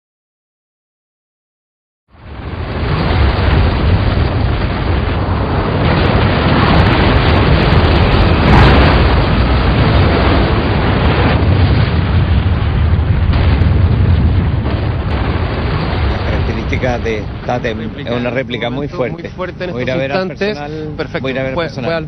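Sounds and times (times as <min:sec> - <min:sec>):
earthquake rumble and rattle: 0:02.1 - 0:22.0.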